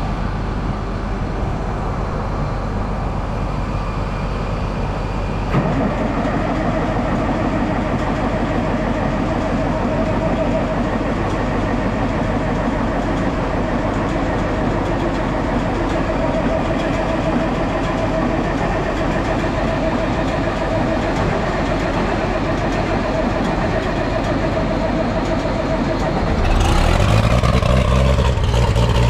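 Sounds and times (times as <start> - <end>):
deep engine sound: 0.0 - 29.0
tractor engine idling: 0.0 - 29.0.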